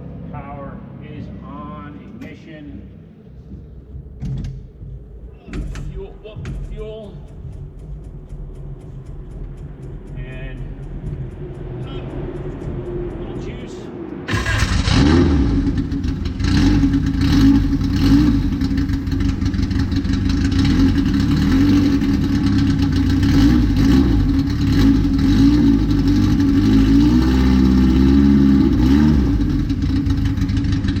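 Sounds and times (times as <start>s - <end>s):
car engine running: 2.8s - 31.0s.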